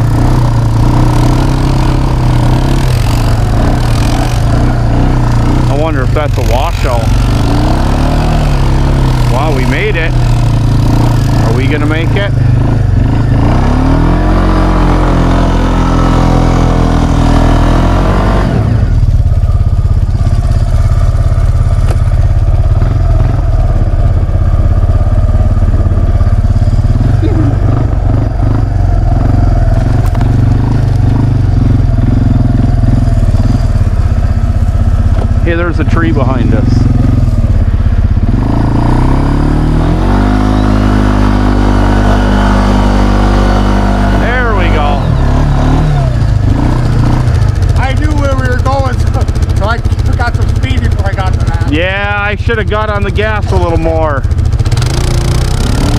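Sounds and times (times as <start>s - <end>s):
quad engine accelerating: 0.0s - 55.9s.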